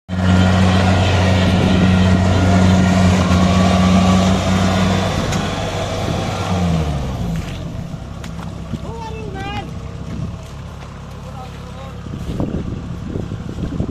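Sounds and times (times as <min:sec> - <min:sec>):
combine harvester engine droning: 0:00.1 - 0:13.9.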